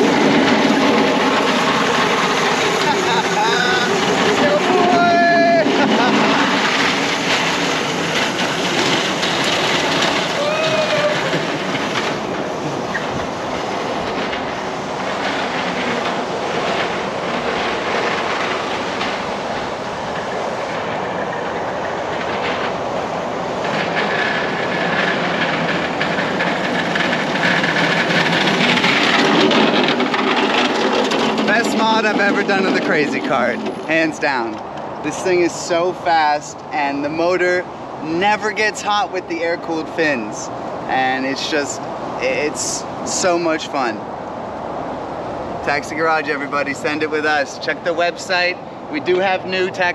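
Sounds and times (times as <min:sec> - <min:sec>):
hard wheels rattling on asphalt: 0:00.0 - 0:49.9.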